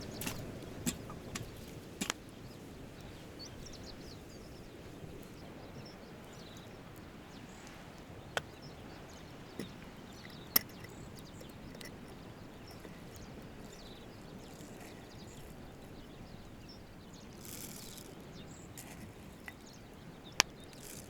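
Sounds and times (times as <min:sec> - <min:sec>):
low outdoor background noise: 0:00.0 - 0:21.0.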